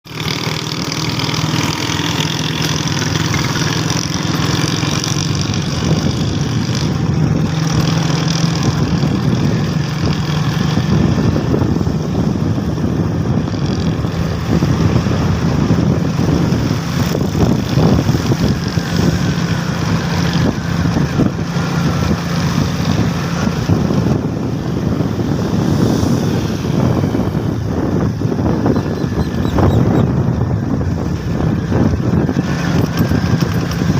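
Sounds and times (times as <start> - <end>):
road and wind noise: 0.0 - 33.9
vehicle engine humming: 0.0 - 33.9.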